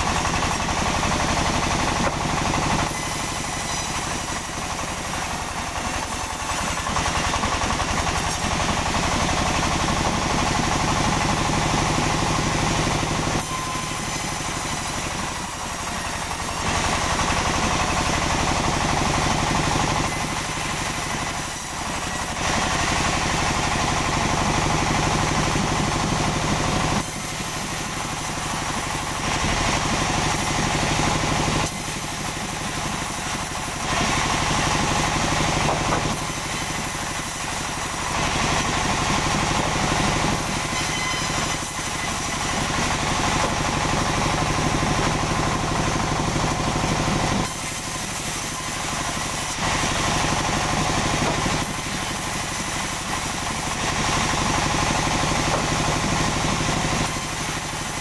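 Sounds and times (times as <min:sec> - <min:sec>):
sawmill saw cutting logs: 0:00.0 - 0:58.0.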